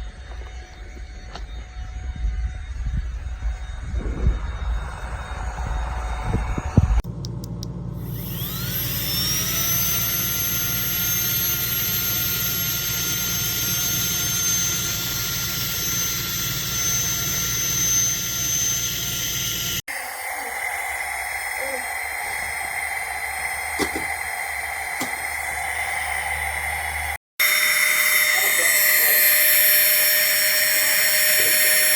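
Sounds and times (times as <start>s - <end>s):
electric air pump whining: 0.0s - 31.9s.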